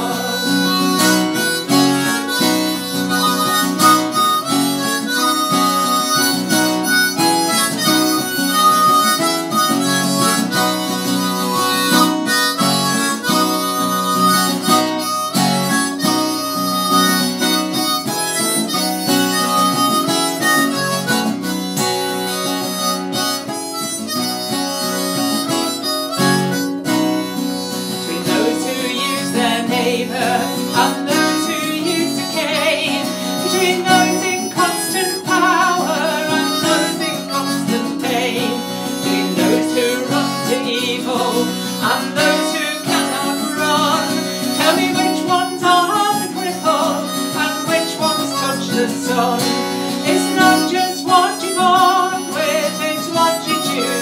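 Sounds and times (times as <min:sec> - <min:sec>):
harmonica melody: 0:00.0 - 0:54.0
strummed acoustic guitar: 0:00.0 - 0:54.0.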